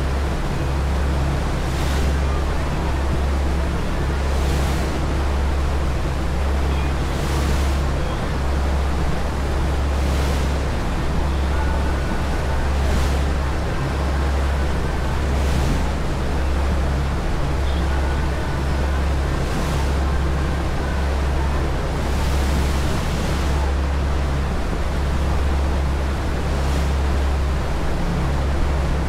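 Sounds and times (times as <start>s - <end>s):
churning wake rushing: 0.0s - 29.0s
ferry engines droning: 0.0s - 29.0s
wind on microphone: 0.0s - 29.0s.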